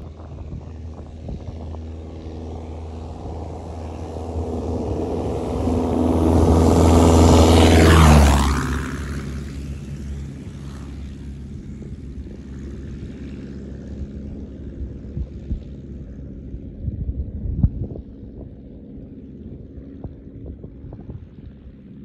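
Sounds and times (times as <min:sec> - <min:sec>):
wind buffeting microphone: 0:00.0 - 0:13.0, 0:13.6 - 0:21.9
propeller aircraft engine droning: 0:00.0 - 0:22.0.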